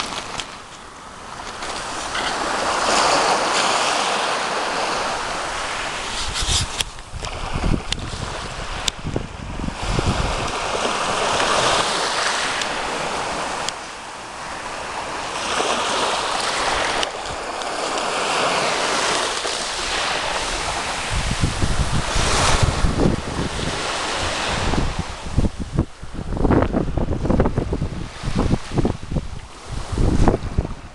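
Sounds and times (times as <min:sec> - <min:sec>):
sea waves breaking on shore: 0:00.0 - 0:30.9
wind buffeting microphone: 0:01.2 - 0:30.9.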